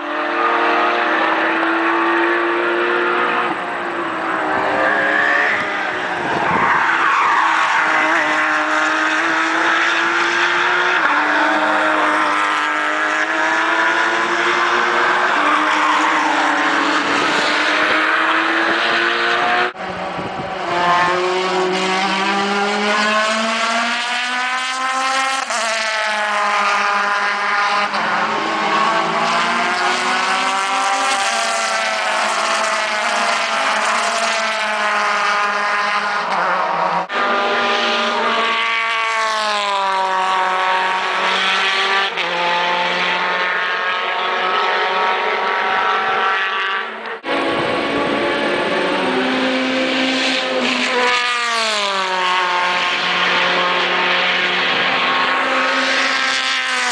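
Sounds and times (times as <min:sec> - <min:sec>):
race car engines passing: 0:00.0 - 0:56.9.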